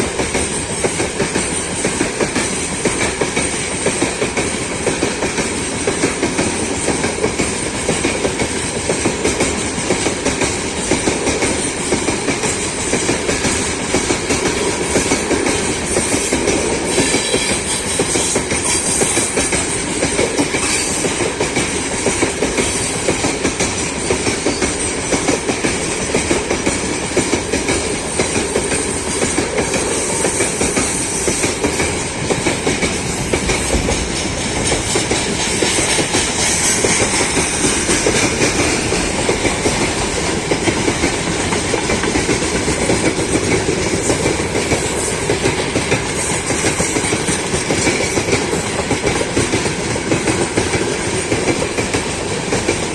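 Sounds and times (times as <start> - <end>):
freight train wheels clattering: 0.0 - 52.9.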